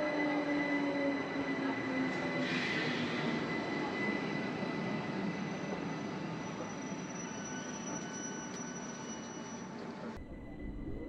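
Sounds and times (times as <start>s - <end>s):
electric train running hum: 0.0s - 11.0s.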